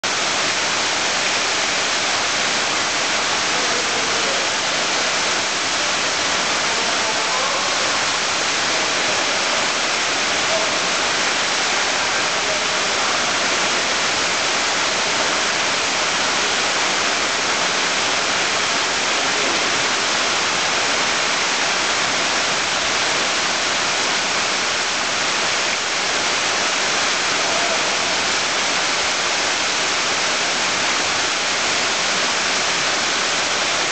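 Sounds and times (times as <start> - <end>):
water streams splashing into pool: 0.0 - 33.9.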